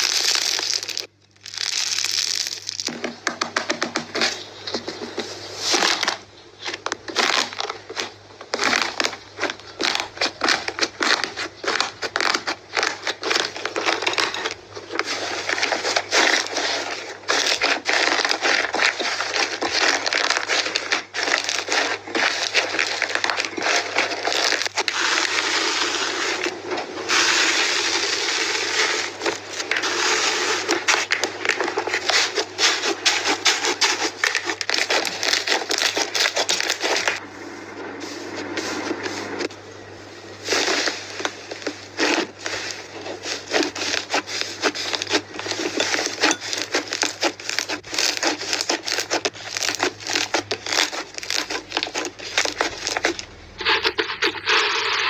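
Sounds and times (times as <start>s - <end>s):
slime crackling and squishing: 0.0s - 37.2s, 38.3s - 55.0s.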